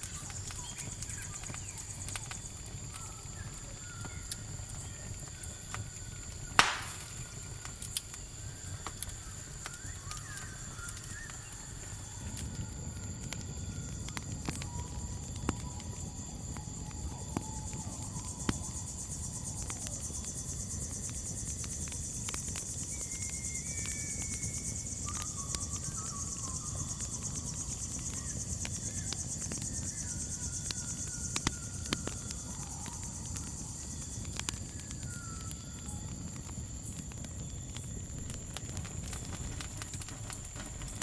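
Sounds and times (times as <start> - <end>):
campfire crackling and popping: 0.0 - 41.0
crickets chirping: 0.0 - 41.0.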